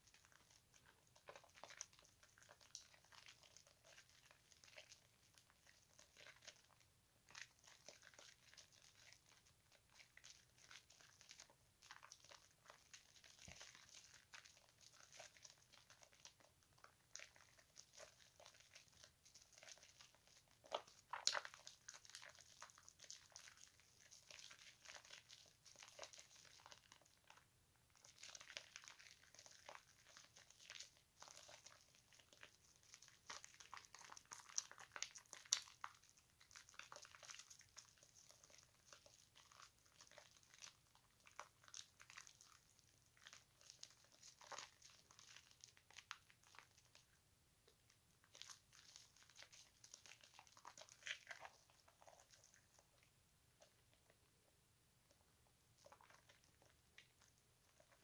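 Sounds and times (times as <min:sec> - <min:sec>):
wet squishing of soap foam: 0:00.0 - 0:58.0.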